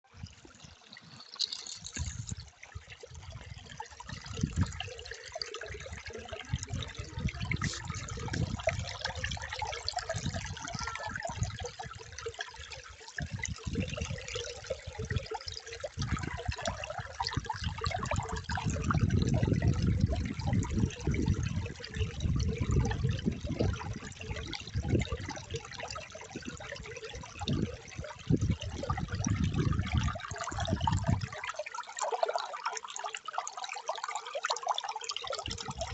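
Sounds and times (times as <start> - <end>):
water flowing and trickling: 0.0 - 35.9.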